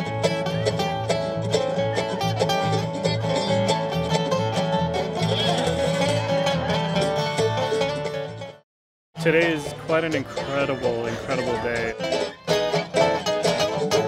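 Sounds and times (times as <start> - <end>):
mandolin: 0.0 - 8.6, 9.2 - 14.0
strummed acoustic guitars: 0.0 - 8.6, 9.2 - 14.0
upright bass: 0.0 - 8.6, 9.2 - 14.0.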